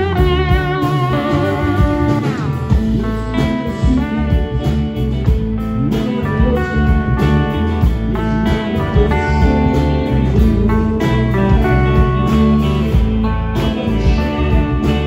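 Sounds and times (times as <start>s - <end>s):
blues-rock band playing: 0.0s - 15.0s
guitar sliding down in pitch: 0.0s - 15.0s.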